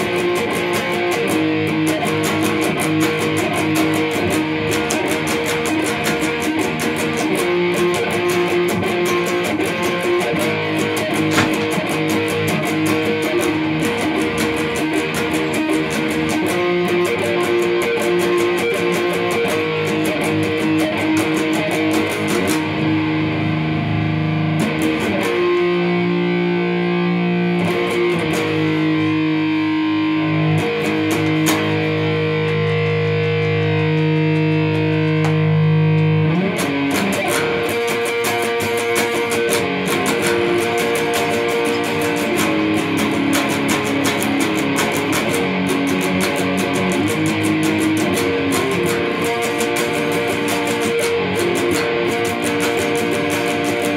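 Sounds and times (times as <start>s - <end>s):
electric guitar playing: 0.0s - 53.9s.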